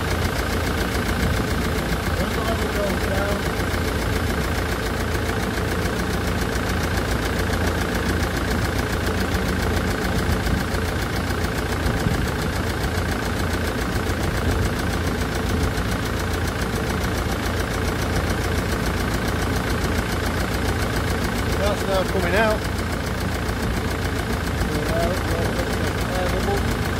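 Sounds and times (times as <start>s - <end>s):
diesel engine idling: 0.0s - 26.9s
engine tappets ticking: 0.0s - 26.9s.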